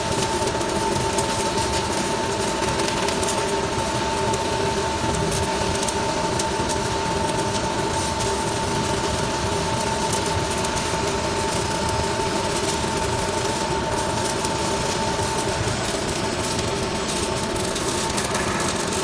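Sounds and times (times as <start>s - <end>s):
welding arc crackling hiss: 0.0s - 19.0s
welding equipment whine: 0.0s - 19.0s.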